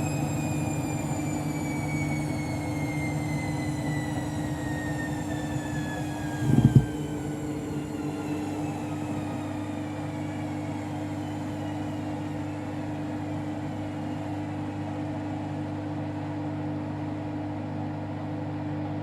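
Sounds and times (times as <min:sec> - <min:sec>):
motor whine: 0:00.0 - 0:17.6
washing machine running: 0:00.0 - 0:19.0.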